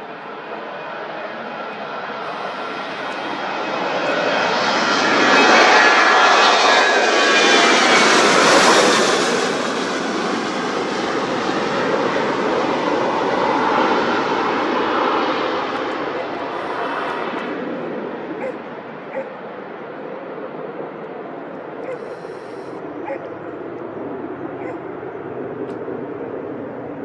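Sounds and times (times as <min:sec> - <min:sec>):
airliner engines rushing past: 0:00.0 - 0:27.0
jet engine whine falling in pitch: 0:00.0 - 0:27.0.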